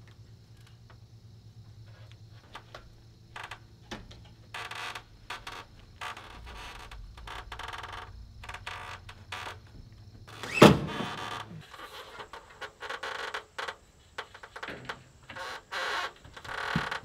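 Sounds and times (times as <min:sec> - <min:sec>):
sheet metal creaks and scrapes: 0:02.4 - 0:17.0.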